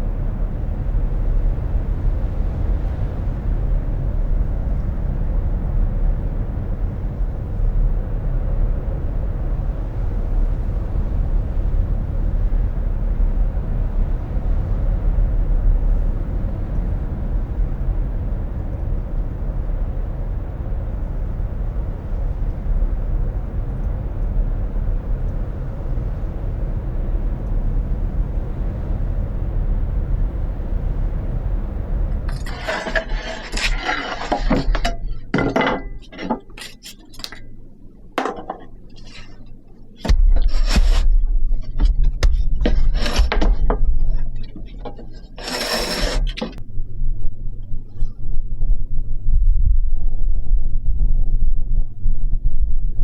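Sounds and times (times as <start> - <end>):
steady low rumble: 0.0 - 53.0.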